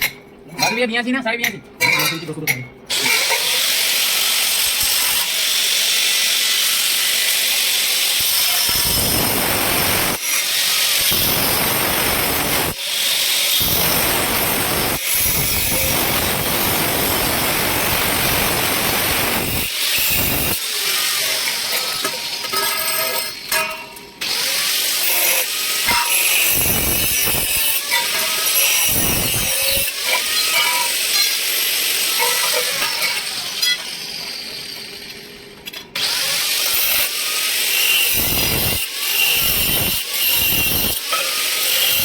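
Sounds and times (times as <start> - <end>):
power tool working metal: 2.9 - 42.0.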